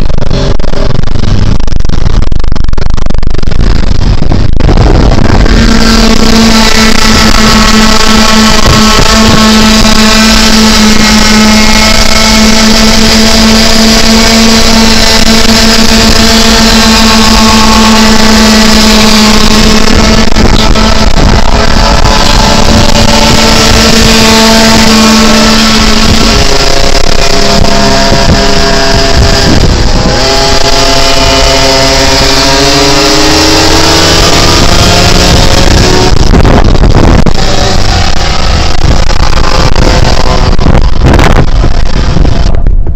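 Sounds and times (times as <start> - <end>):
small two-stroke engines buzzing: 0.0 - 42.9.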